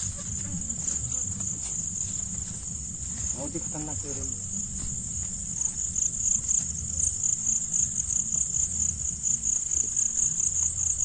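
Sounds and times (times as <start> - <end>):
low rumble: 0.0 - 10.8
crickets chirping: 0.0 - 11.0.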